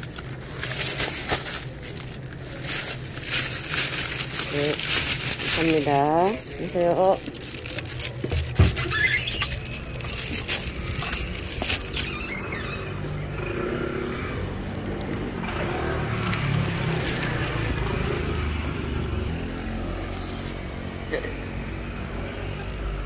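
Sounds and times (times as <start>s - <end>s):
plastic bag crinkling: 0.0s - 21.0s
city street traffic rumble: 0.0s - 23.0s.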